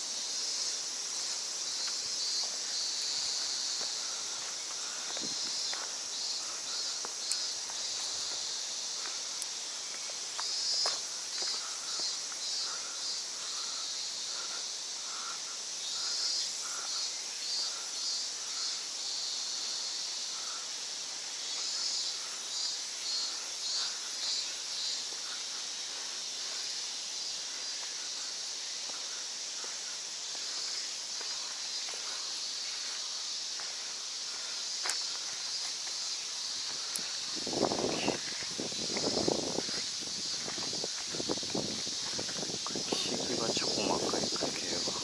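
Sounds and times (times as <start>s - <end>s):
chorus of insects: 0.0s - 45.0s.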